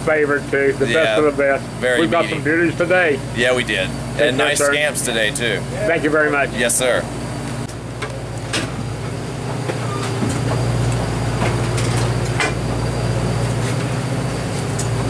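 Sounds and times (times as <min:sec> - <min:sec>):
boat diesel engine humming: 0:00.0 - 0:15.0.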